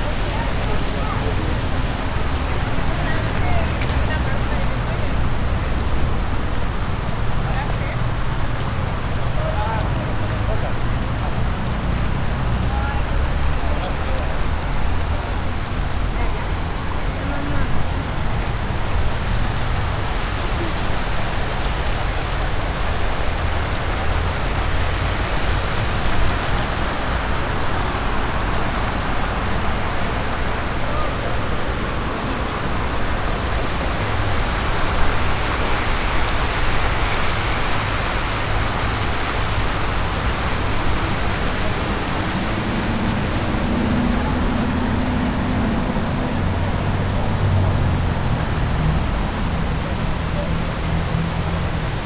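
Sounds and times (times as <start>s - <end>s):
steady rushing noise: 0.0s - 52.0s.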